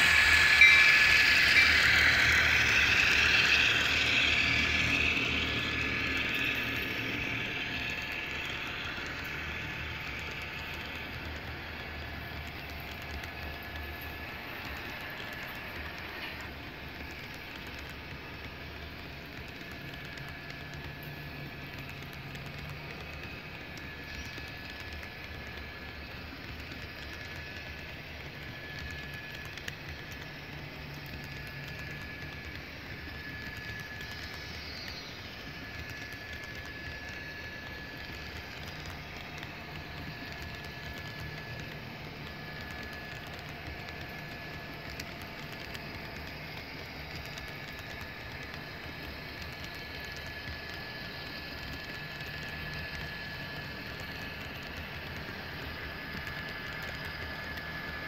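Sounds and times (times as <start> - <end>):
model train wheels clattering: 0.0 - 58.0.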